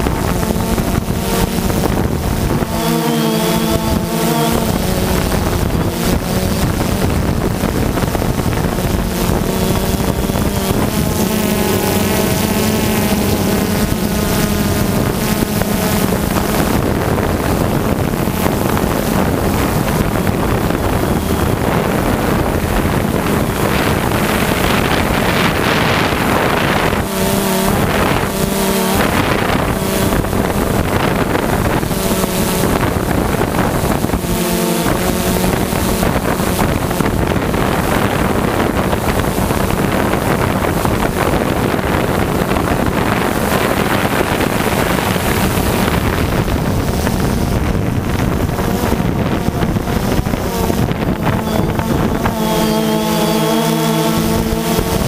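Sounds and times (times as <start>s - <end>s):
drone propellers buzzing: 0.0s - 55.0s
wind rushing over microphone: 0.0s - 55.0s.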